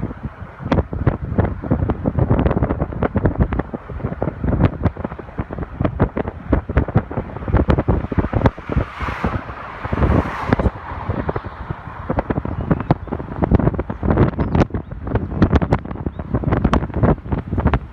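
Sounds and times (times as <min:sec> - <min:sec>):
vehicle rumble with rattles: 0:00.0 - 0:17.9
wind noise on microphone: 0:00.0 - 0:17.9.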